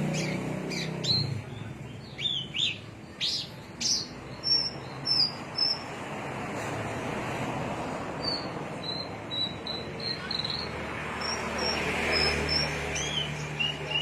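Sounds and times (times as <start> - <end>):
songbird chirping: 0.0 - 6.0, 8.2 - 14.0.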